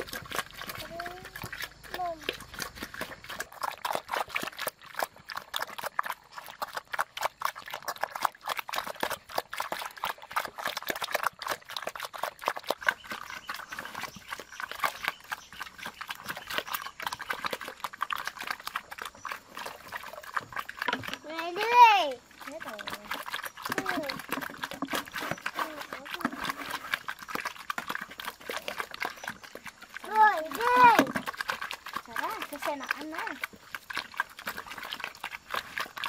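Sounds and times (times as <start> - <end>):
pig smacking and slurping: 0.0 - 36.0.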